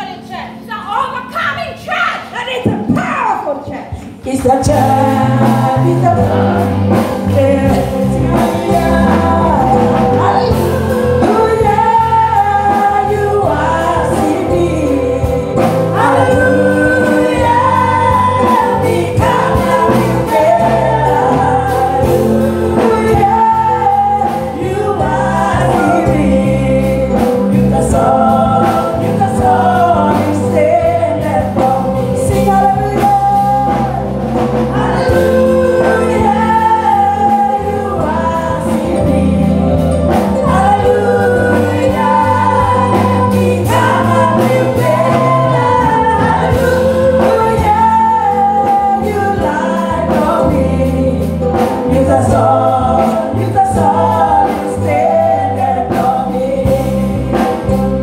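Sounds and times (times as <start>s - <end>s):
women's group singing gospel: 3.9s - 58.0s
lead singer on microphone: 4.0s - 58.0s.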